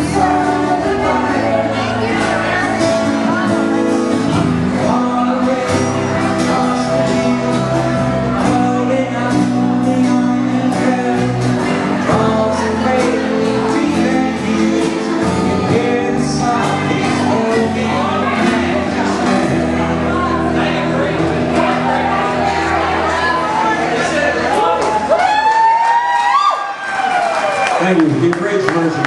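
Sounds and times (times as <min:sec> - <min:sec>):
person singing: 0:00.0 - 0:24.7
live band playing: 0:00.0 - 0:29.0.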